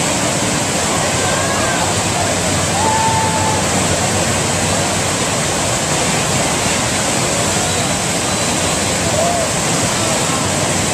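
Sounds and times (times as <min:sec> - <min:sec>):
rush of pumped water: 0:00.0 - 0:10.9.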